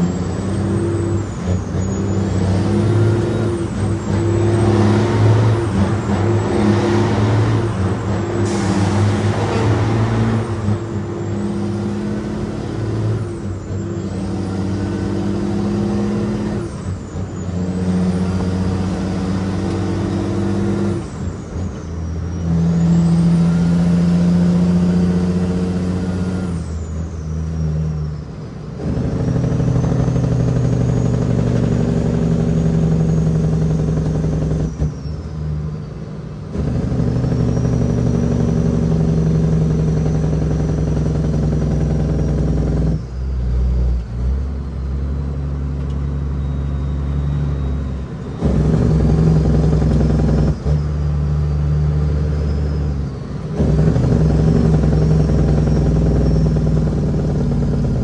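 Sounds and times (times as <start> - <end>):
diesel truck engine pulling under load: 0.0 - 58.0.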